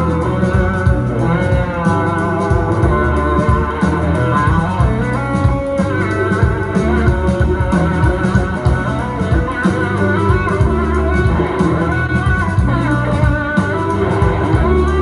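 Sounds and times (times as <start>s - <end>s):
blues rock band playing: 0.0s - 15.0s
electric guitar lead: 0.0s - 15.0s.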